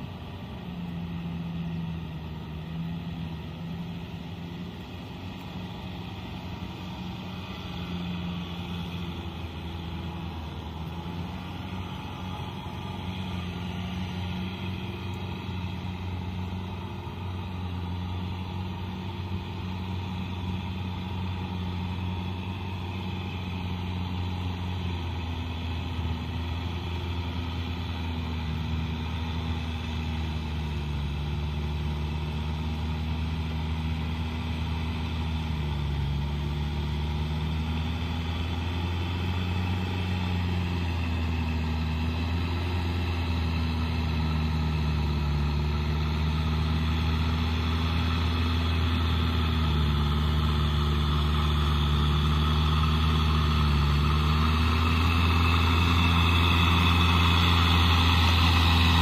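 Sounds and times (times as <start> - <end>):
tractor diesel engine humming: 0.0 - 59.0.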